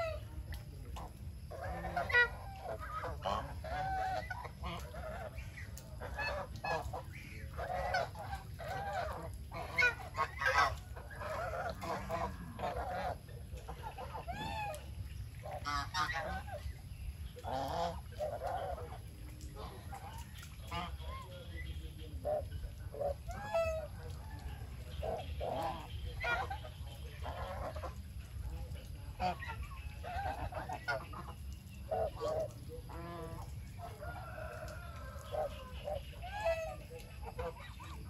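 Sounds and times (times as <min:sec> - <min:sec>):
geese honking and cackling: 0:00.0 - 0:38.0.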